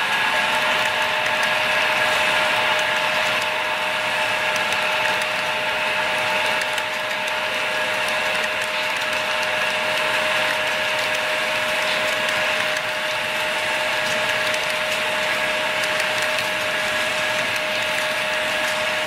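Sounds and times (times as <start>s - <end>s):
steady high whine: 0.0s - 19.0s.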